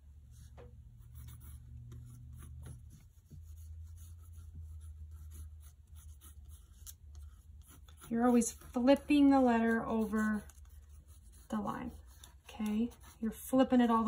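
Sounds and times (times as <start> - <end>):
low steady hum: 0.0 - 14.0
pencil scratching on paper: 0.3 - 14.0.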